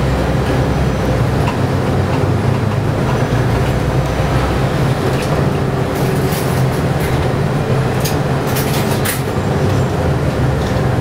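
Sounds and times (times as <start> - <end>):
bus engine low hum: 0.0 - 11.0.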